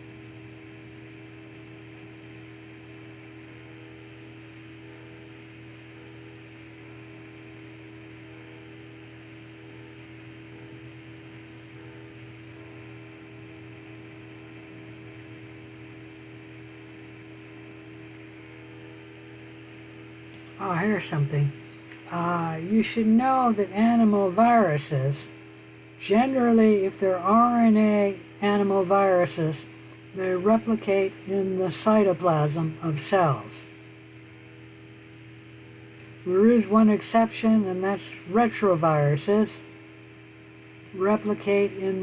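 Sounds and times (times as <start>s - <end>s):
steady electrical hum with tones: 0.0s - 42.0s.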